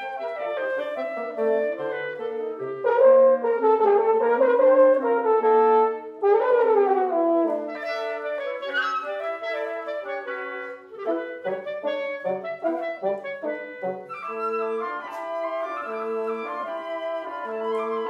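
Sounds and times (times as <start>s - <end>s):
wind quintet playing: 0.0s - 18.0s.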